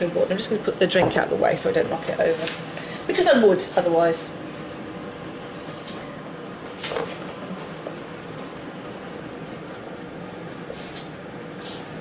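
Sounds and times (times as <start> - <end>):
kitchen background hum: 0.0 - 12.0.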